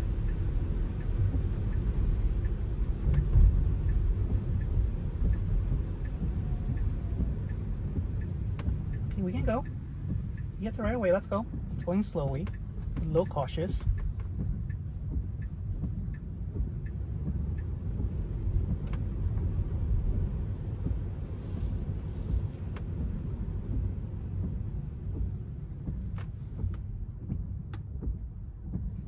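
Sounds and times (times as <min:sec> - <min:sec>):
road and tyre rumble in car: 0:00.0 - 0:29.0
faint ticks: 0:00.1 - 0:29.0.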